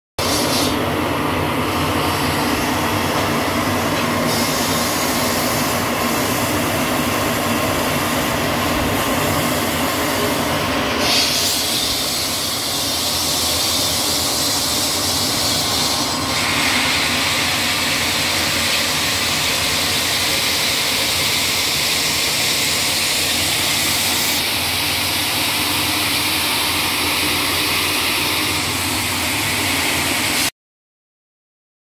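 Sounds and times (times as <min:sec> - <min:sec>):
loud mechanical noise: 0:00.2 - 0:30.5.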